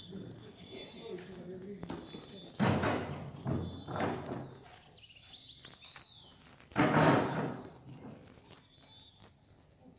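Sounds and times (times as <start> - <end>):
faint birds chirping: 0.0 - 9.9.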